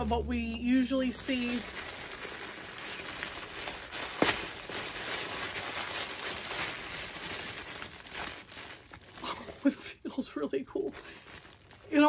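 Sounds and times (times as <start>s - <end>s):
bubble wrap snap: 0.0s - 9.7s
bubble wrap crinkling: 0.0s - 12.0s.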